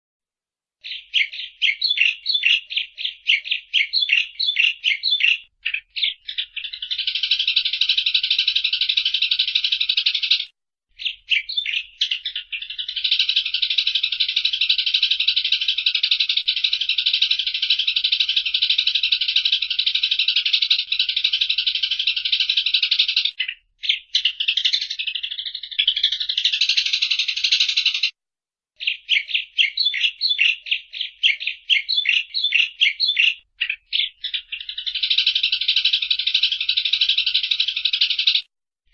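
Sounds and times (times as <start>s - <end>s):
sparrow chattering: 0.8s - 28.2s, 28.8s - 38.5s.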